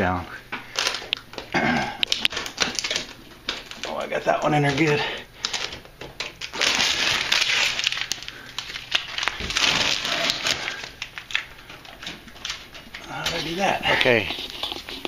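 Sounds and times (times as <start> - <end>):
tape and plastic wrap crinkling: 0.5 - 15.0.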